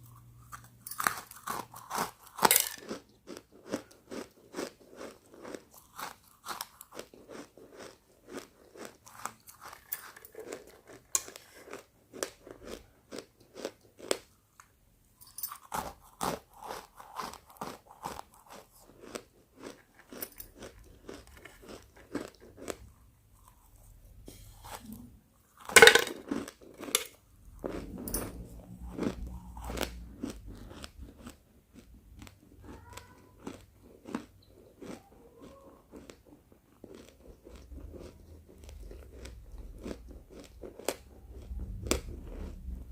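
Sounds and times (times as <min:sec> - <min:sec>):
chalk crunching while chewed: 0:00.0 - 0:14.7, 0:15.6 - 0:24.9, 0:27.6 - 0:42.7.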